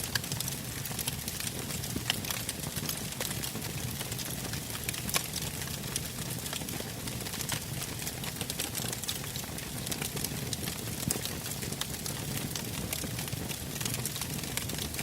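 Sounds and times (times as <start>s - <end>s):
burning logs crackling: 0.0s - 15.0s
low rumble of flames: 0.1s - 15.0s.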